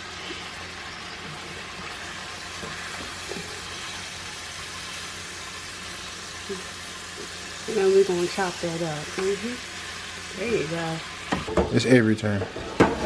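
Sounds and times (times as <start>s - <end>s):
fish sizzling in a pan: 0.0s - 13.0s.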